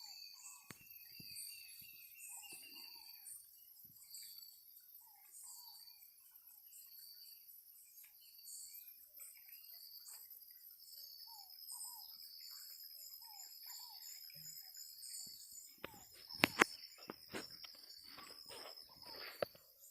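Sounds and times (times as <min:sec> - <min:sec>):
insects chirping: 0:00.0 - 0:19.9.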